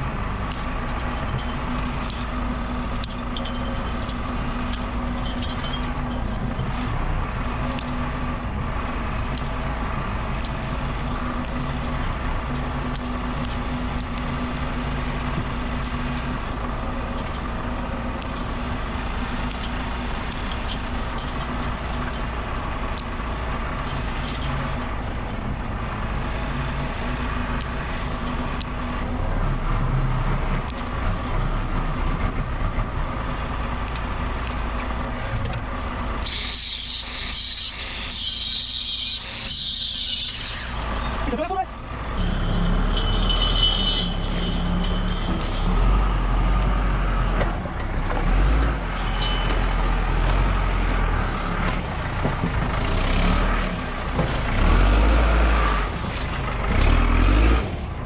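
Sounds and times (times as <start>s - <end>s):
vehicle engine running: 0.0s - 36.3s, 40.7s - 58.0s.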